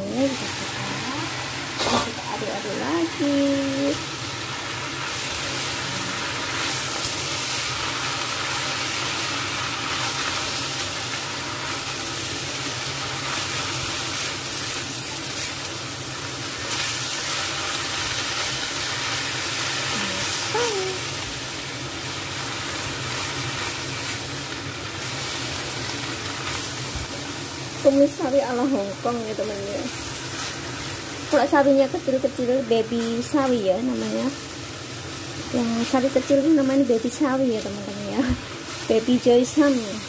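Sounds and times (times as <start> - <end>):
vegetables sizzling in a wok: 0.0 - 40.0.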